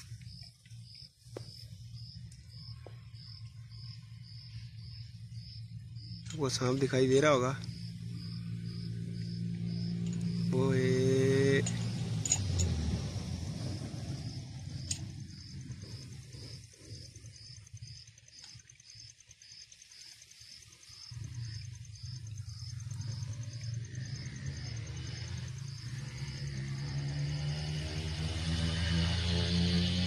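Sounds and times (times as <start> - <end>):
low rumble: 0.0 - 18.0, 20.9 - 27.2
insect chirping: 0.0 - 30.0.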